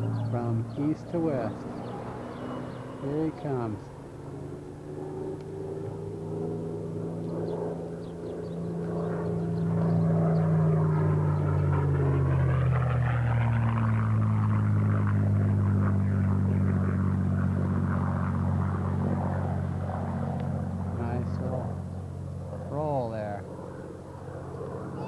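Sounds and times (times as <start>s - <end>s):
propeller plane engine passing: 0.0s - 25.0s.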